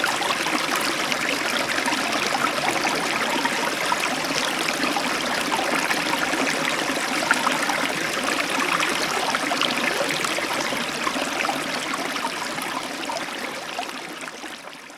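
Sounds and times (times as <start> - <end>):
river flowing over stones: 0.0 - 14.3.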